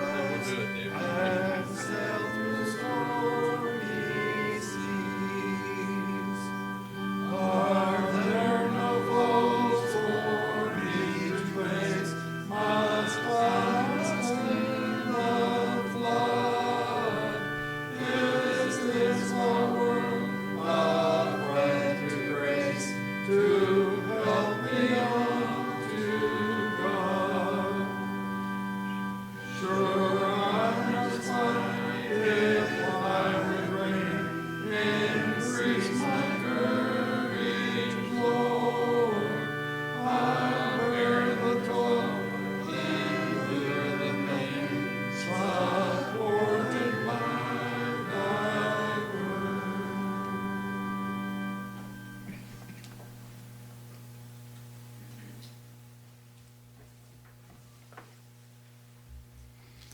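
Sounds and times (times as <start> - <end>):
congregation singing a hymn: 0.0 - 53.0
organ chords: 0.0 - 59.9.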